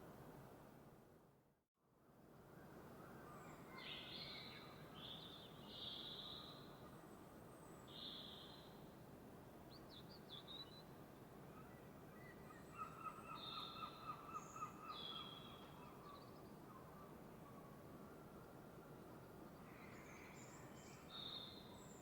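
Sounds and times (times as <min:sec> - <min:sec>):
faint background hiss: 0:02.0 - 0:22.0.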